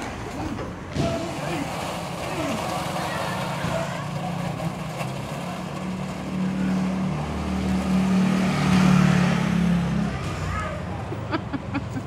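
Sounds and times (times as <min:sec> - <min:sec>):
motor scooter passing by: 0:01.3 - 0:11.1.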